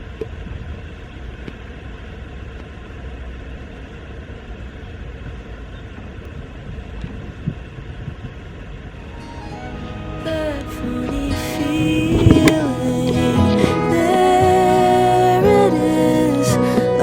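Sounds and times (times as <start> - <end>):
low outdoor rumble: 0.0 - 16.3.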